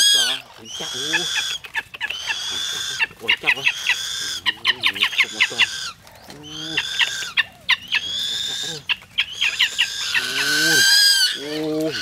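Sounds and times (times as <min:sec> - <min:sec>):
birds calling high-pitched: 0:00.0 - 0:12.0
low wavering bird cry: 0:00.0 - 0:12.0.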